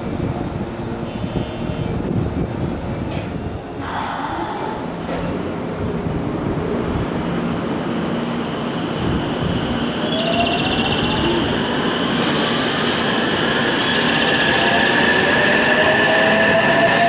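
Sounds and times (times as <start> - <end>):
train wheels rumbling on rails: 1.6 - 10.1, 10.7 - 17.0.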